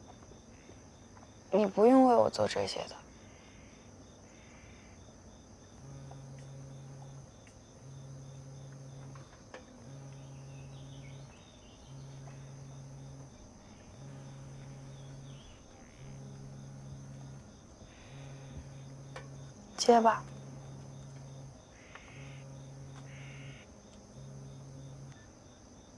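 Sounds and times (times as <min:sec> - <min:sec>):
mobile phone vibrating buzz: 0:03.2 - 0:25.9.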